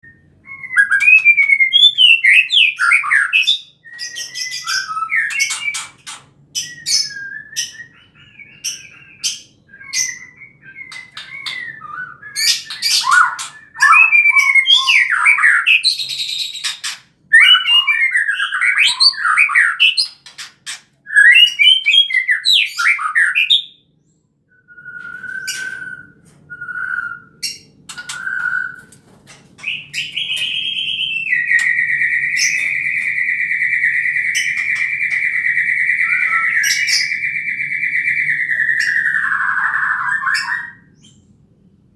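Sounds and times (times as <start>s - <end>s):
bird singing whistles and clicks: 0.5s - 20.2s, 24.7s - 29.0s, 29.6s - 41.2s.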